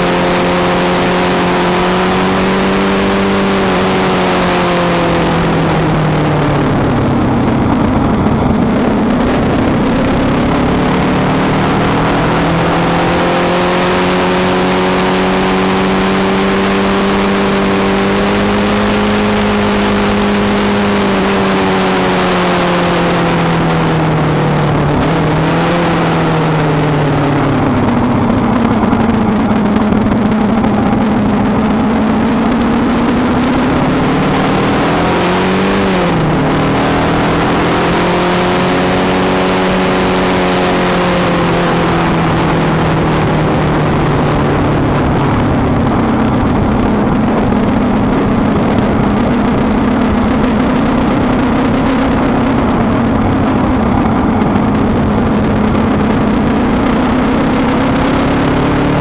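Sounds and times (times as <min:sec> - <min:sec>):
motorcycle engine: 0:00.0 - 0:59.0
wind rush over microphone: 0:00.0 - 0:59.0.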